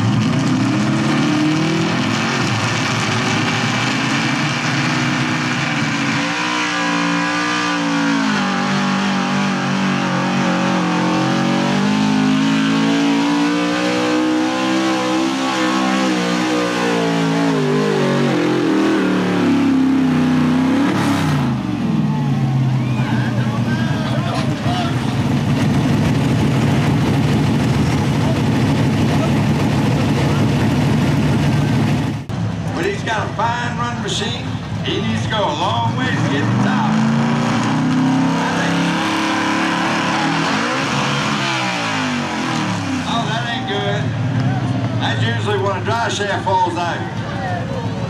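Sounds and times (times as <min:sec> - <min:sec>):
pickup engine running hard: 0:00.0 - 0:48.0.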